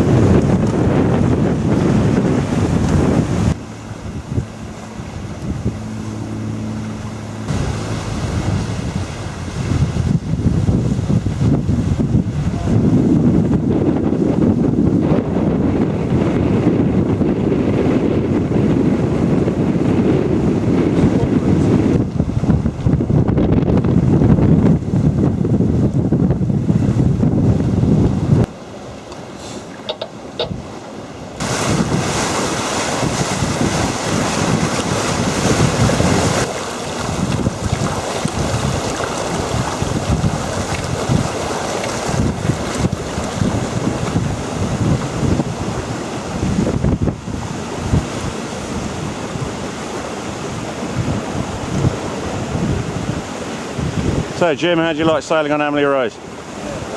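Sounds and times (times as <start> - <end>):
water rushing along hull: 0.0 - 56.9
wind buffeting microphone: 0.0 - 56.9.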